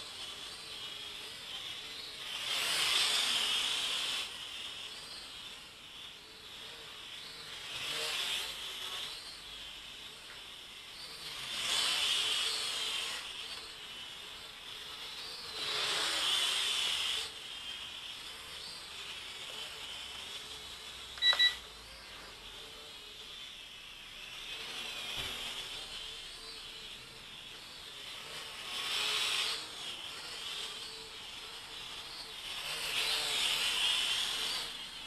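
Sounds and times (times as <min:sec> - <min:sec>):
drone propellers whirring: 0:00.0 - 0:35.0.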